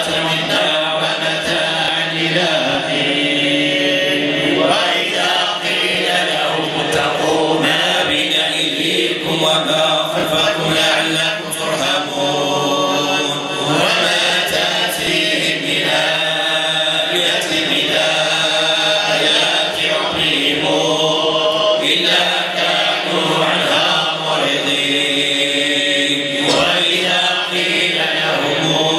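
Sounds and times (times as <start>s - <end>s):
men chanting devotional phrase: 0.0s - 28.9s.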